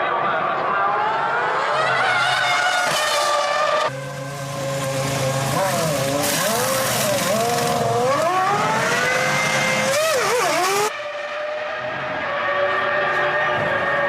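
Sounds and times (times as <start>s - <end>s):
racing car engine screaming: 0.0s - 14.0s.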